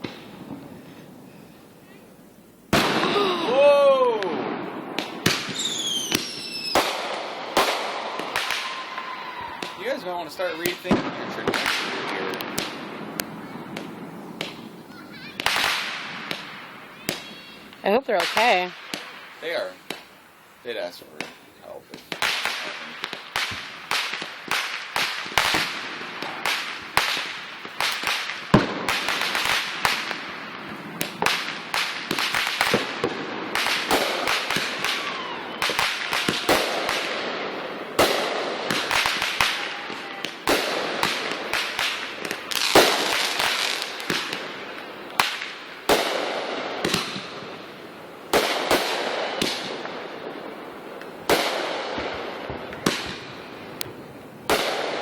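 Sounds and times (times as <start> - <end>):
fireworks bangs: 0.0 - 2.1, 2.7 - 55.0
fireworks crackling: 0.0 - 55.0.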